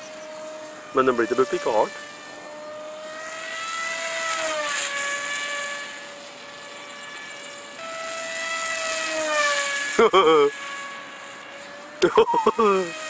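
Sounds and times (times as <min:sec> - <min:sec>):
model plane motor humming: 0:00.0 - 0:13.0.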